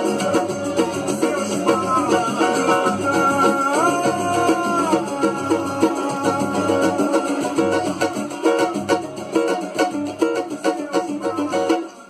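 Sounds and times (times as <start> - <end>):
cavaquinho strummed with pick: 0.0 - 12.0.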